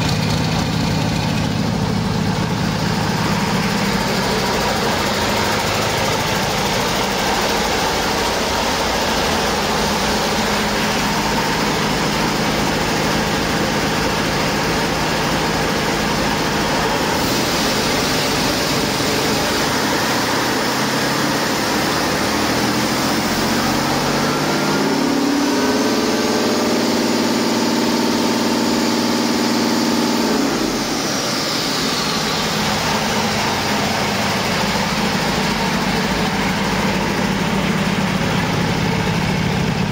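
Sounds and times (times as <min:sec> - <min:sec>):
diesel engine idling and revving: 0:00.0 - 0:39.9.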